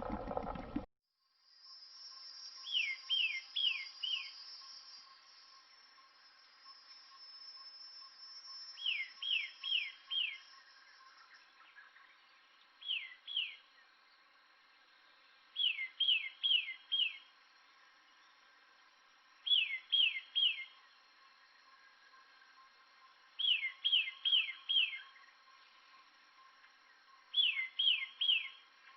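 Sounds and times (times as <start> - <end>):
faint insect-like drone: 1.1 - 28.9.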